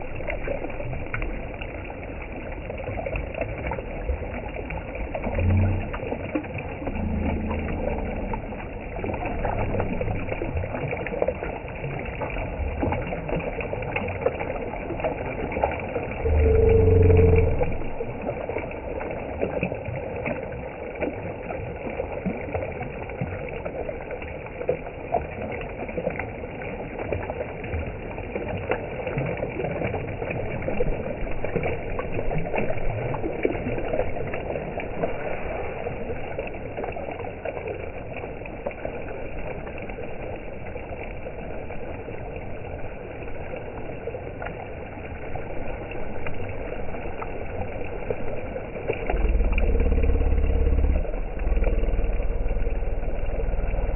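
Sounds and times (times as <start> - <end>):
river water rushing over stones: 0.0 - 53.9.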